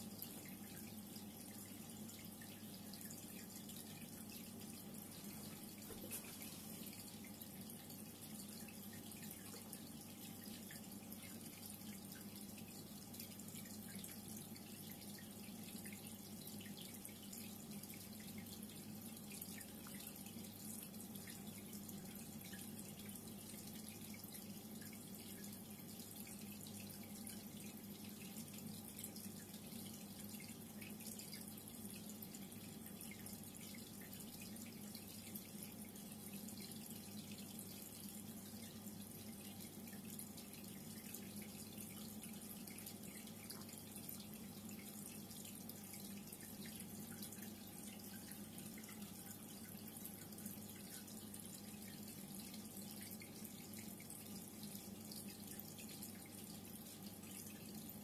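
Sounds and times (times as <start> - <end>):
low pump hum: 0.0 - 58.0
water trickling and splashing: 0.0 - 58.0.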